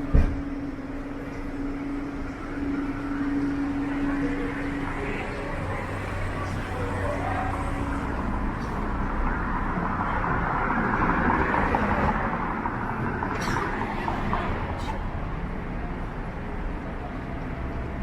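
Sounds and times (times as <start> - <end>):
traffic running by: 0.0 - 18.0.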